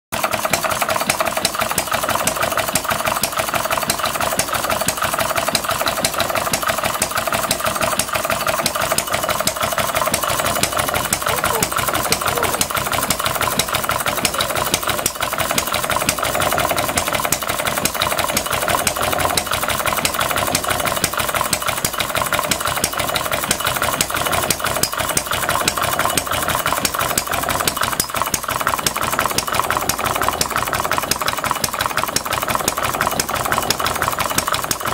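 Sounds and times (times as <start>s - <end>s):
model stationary engine running: 0.1s - 34.9s.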